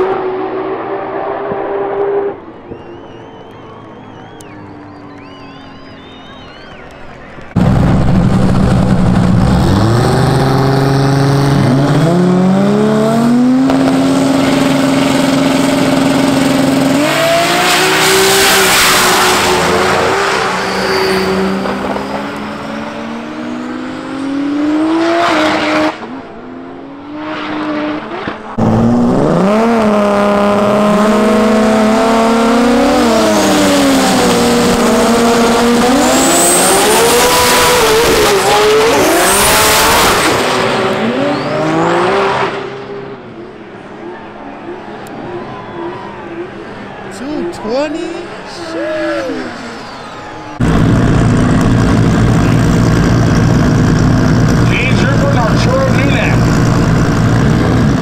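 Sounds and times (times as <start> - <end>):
drag race car engines revving: 0.0 - 58.0.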